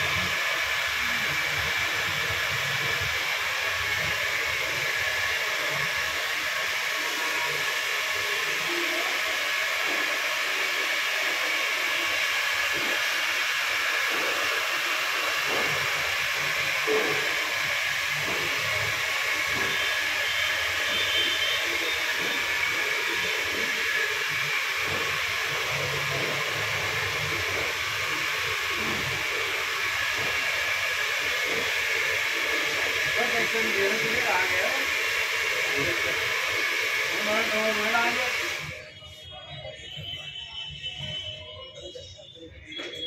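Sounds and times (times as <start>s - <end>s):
electric air blower hissing: 0.0s - 38.9s.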